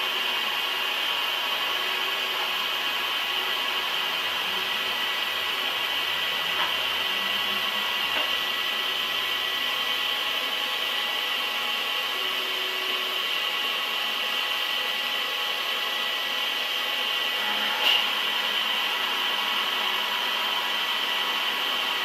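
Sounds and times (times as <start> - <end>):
metal-cutting machine hiss and whine: 0.0 - 22.0.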